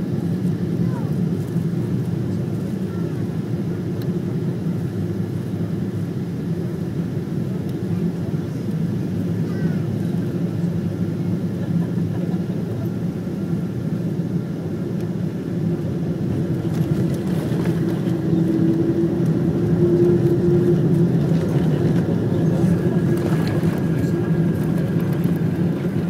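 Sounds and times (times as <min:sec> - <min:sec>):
aircraft cabin engine hum: 0:00.0 - 0:26.0.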